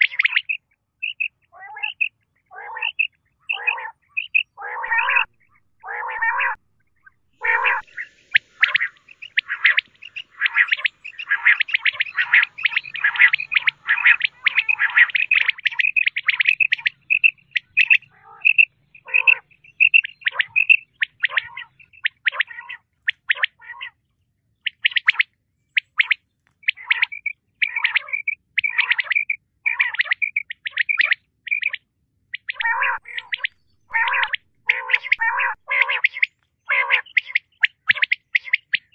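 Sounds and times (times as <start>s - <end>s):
quail chirping: 0.0s - 24.0s, 24.6s - 38.9s.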